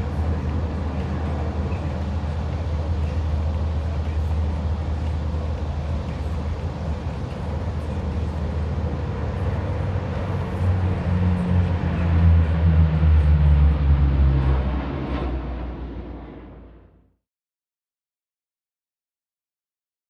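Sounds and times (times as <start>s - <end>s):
turboprop engines droning: 0.0s - 17.2s.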